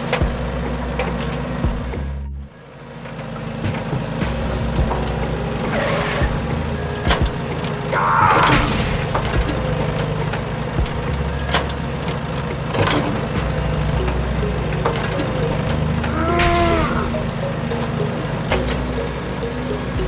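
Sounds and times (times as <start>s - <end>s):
toy engine idling: 2.6s - 20.0s.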